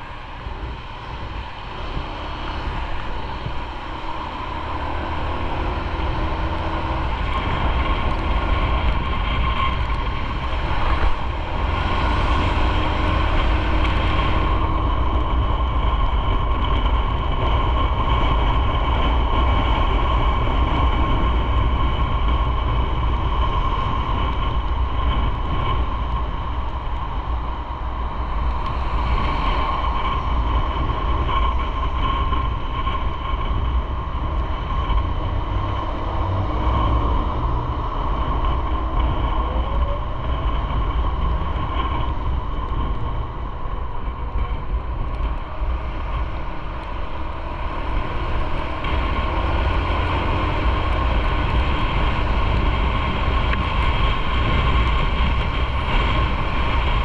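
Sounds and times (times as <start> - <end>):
motorcycle engine drone: 0.0 - 57.0
road noise: 0.0 - 57.0.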